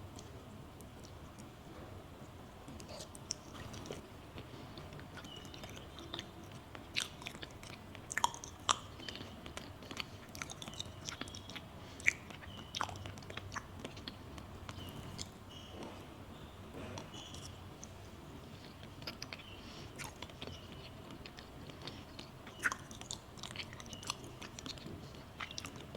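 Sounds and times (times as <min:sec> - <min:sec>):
wet chewing with mouth clicks: 0:00.0 - 0:02.0, 0:02.6 - 0:25.9.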